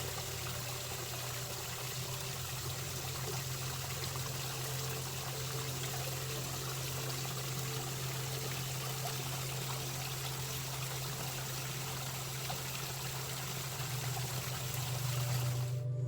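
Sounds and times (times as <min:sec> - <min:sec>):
creek water flowing: 0:00.0 - 0:15.8
low steady hum: 0:00.0 - 0:16.0.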